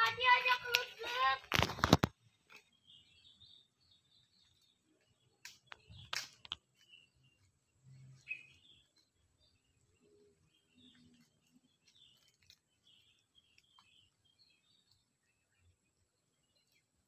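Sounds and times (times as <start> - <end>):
faint bird chirps: 2.6 - 17.0.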